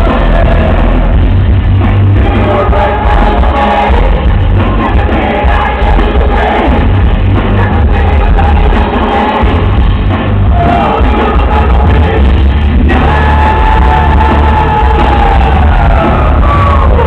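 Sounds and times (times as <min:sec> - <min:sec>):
drum kit: 0:00.0 - 0:17.0.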